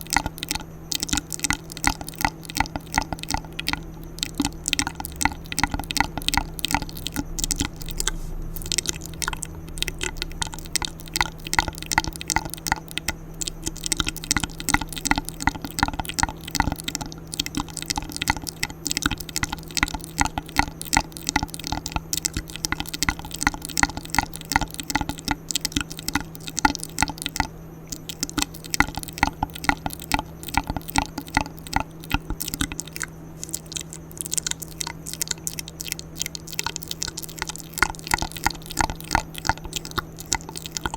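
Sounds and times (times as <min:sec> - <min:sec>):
wet mouth clicks and smacks: 0:00.0 - 0:40.9.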